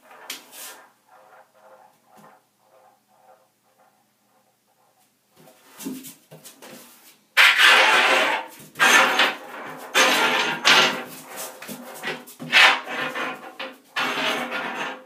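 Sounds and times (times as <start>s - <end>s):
claws scraping a metal tub: 0.0s - 4.0s, 6.8s - 15.0s.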